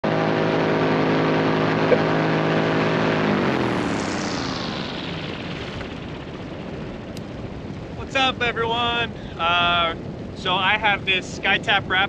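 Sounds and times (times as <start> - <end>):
paramotor engine and propeller: 0.0 - 12.0
rush of wind: 0.1 - 12.0.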